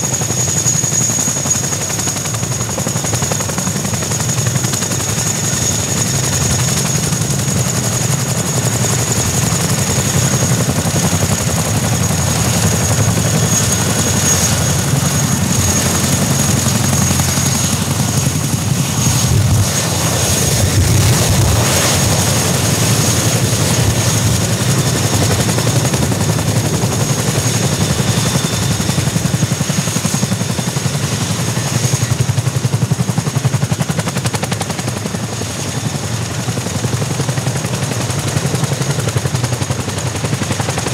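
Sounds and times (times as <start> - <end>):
helicopter engines whining: 0.0 - 40.9.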